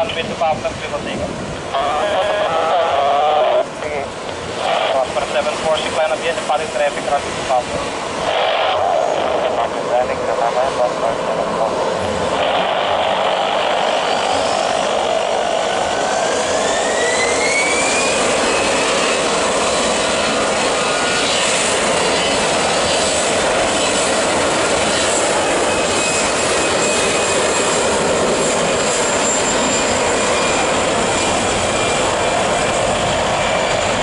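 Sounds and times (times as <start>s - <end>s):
jet engine whine rising: 0.0s - 34.0s
jet engines roaring at takeoff: 0.0s - 34.0s.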